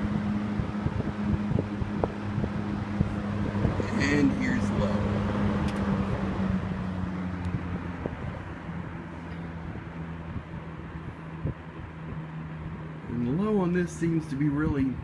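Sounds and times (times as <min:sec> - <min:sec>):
fan blades rushing air: 0:00.0 - 0:15.0
fan motor hum: 0:00.0 - 0:15.0.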